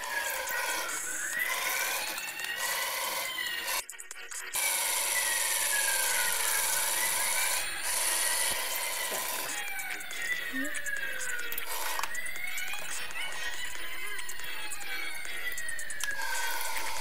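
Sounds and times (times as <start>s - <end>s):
toy siren wailing: 0.0s - 3.9s, 4.5s - 17.0s.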